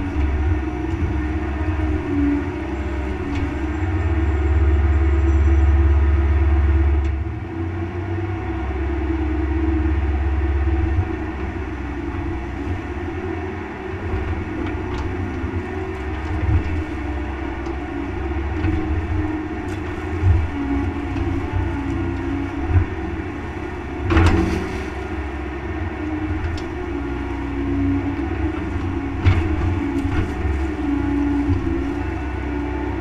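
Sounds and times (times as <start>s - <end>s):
excavator diesel engine running: 0.0s - 33.0s
hydraulics working: 0.0s - 33.0s.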